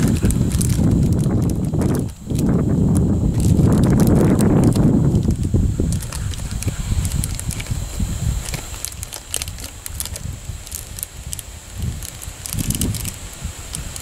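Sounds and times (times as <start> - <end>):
plastic scissors snipping: 0.0 - 7.8, 8.4 - 14.0
foil crinkling: 0.0 - 14.0.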